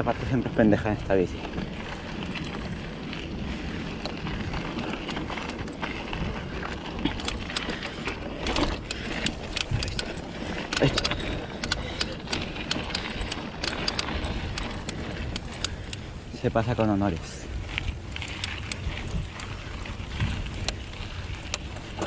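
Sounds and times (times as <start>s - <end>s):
bike clicks and rattles: 0.0s - 22.0s
tyres rumbling on dirt: 0.0s - 22.0s.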